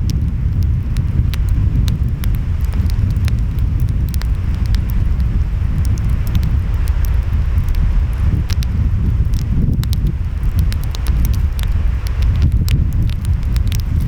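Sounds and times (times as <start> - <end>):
wind: 0.0 - 14.0
wood fire crackling: 0.0 - 14.0.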